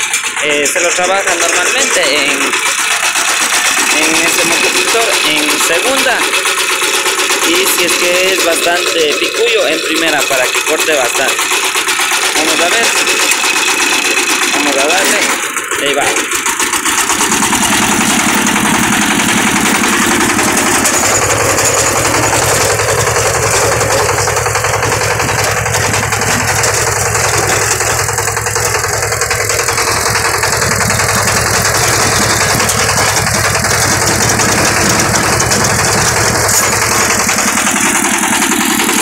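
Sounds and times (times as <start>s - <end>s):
rotary tiller chopping weeds: 0.0s - 39.0s
tractor engine running: 0.0s - 39.0s.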